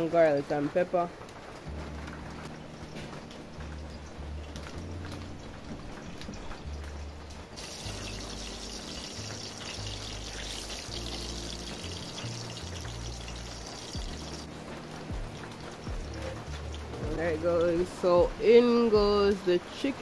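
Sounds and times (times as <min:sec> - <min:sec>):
background music with bass: 0:01.6 - 0:19.4
garlic sizzling in oil: 0:02.8 - 0:20.0.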